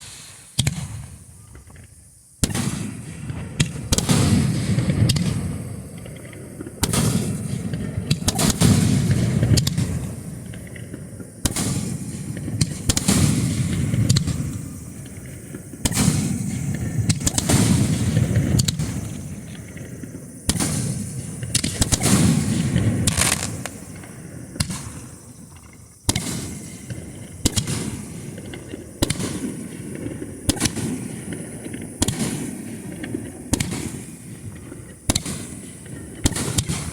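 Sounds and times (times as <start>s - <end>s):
fireworks sharp reports: 0.0s - 36.9s.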